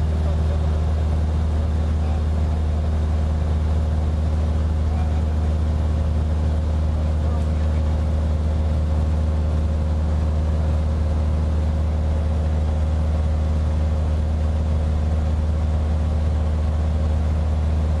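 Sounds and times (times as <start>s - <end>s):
aircraft engine droning in cabin: 0.0s - 18.0s.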